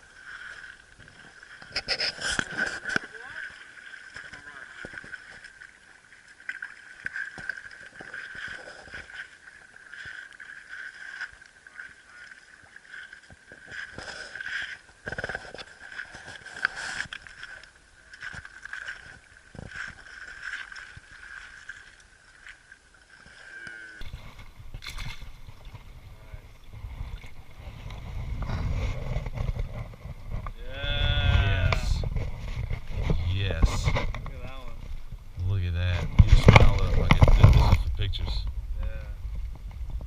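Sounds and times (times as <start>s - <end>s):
creek water gurgling: 0.0s - 40.0s.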